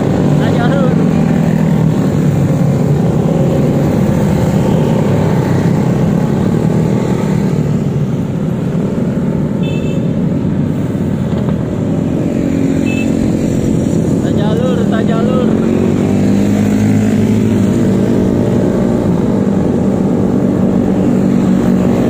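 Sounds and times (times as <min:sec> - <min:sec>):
motorcycles and scooters passing: 0:00.0 - 0:22.0.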